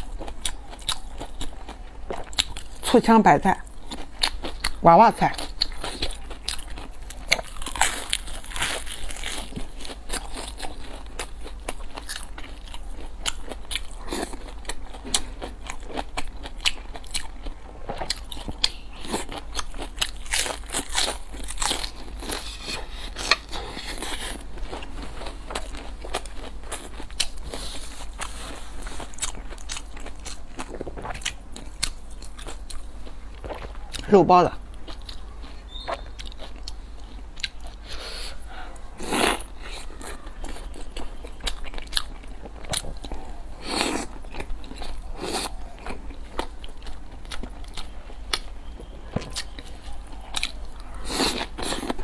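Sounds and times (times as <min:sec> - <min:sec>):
wet chewing: 0:00.0 - 0:52.0.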